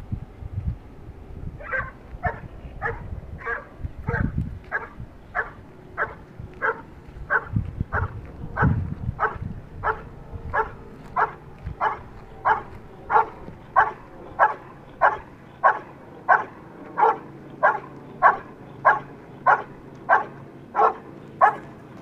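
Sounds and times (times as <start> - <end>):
dog barking: 1.6 - 21.7.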